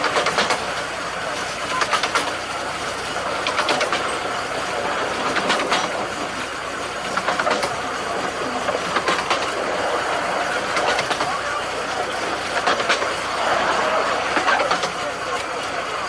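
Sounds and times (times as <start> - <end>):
rumble of wheels on rail: 0.0 - 16.0
wheels clicking over rail joints: 0.0 - 16.0.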